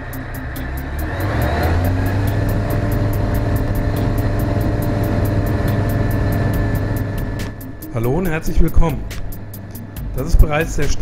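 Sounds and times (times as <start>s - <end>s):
aircraft engine and propeller: 0.0s - 11.0s.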